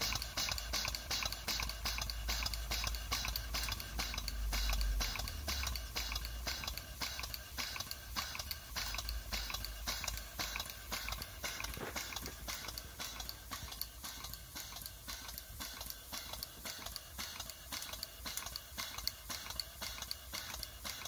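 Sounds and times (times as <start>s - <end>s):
model steam engine chuffing: 0.0s - 21.0s.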